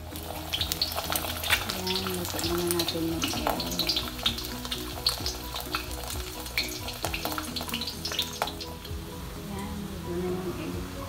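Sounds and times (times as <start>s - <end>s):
sharp crackling pops: 0.0s - 9.0s
egg sizzling in hot oil: 0.0s - 9.4s
soft background music: 0.0s - 11.0s.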